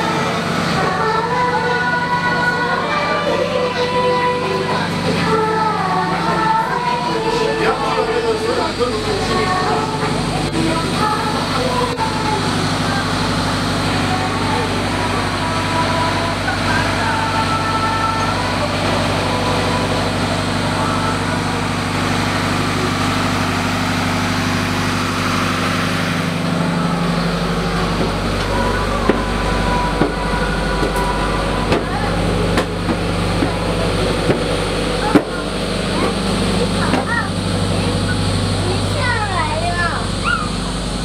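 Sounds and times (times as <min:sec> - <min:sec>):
boat engine humming: 0:00.0 - 0:41.0.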